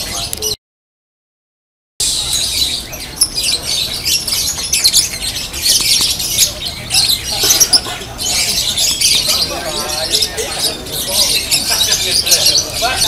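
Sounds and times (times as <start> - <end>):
lovebirds chirping and squawking: 0.0 - 0.6, 2.0 - 13.0.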